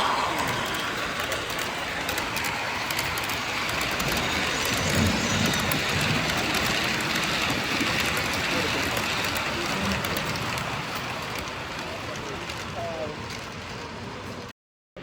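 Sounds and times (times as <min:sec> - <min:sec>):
model train wheels clicking: 0:00.0 - 0:14.5.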